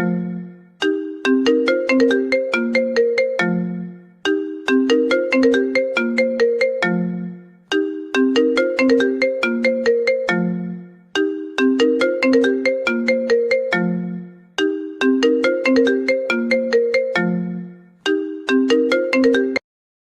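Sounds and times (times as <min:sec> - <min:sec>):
phone ringtone melody: 0:00.0 - 0:19.6.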